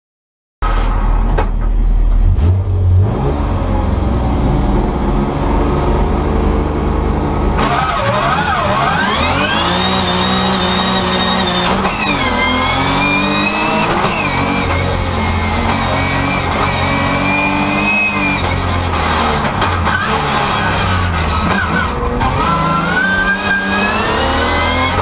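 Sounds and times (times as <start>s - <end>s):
race car engine accelerating: 2.1s - 25.0s.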